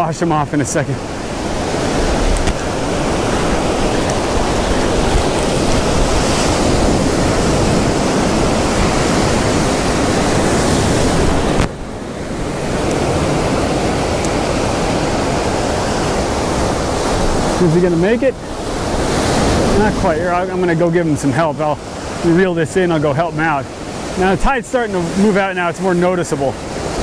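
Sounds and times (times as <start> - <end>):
ocean surf breaking: 0.0 - 27.0
wind buffeting microphone: 0.9 - 25.4.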